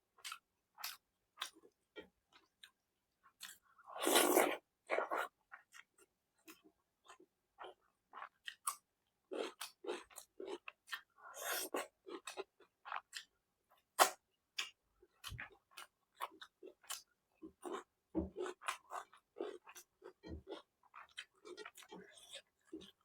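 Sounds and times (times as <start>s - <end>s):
chewing food: 0.2s - 23.0s.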